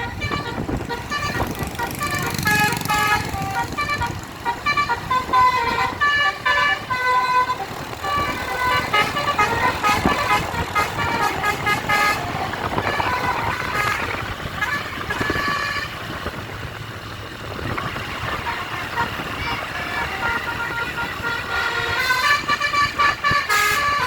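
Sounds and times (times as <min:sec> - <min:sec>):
multi-tone air horn melody: 0:00.0 - 0:16.1, 0:18.2 - 0:24.0.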